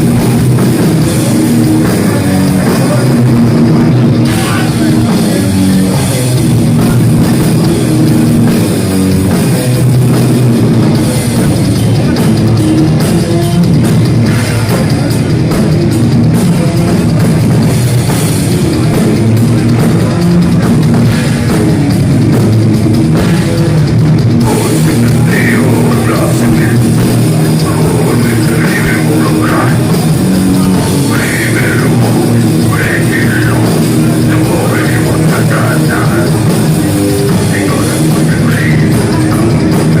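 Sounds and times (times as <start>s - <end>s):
drum kit: 0.0s - 40.0s
electric guitars: 0.0s - 40.0s
heavy metal band playing live: 0.0s - 40.0s.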